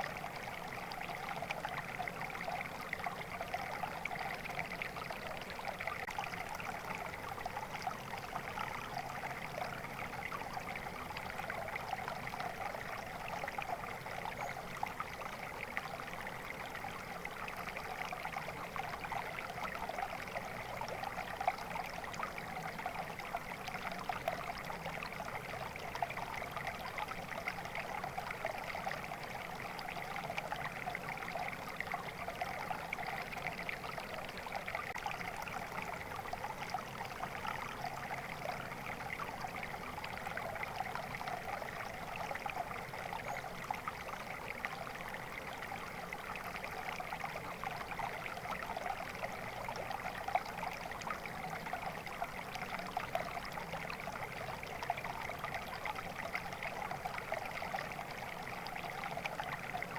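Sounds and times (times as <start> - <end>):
stream water trickling: 0.0 - 59.9.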